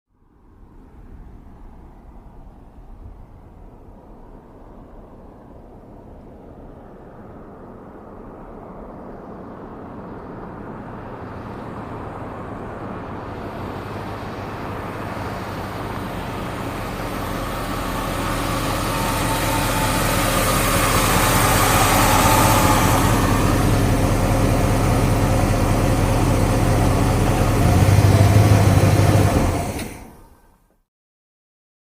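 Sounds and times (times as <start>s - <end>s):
car engine approaching: 0.2s - 30.8s.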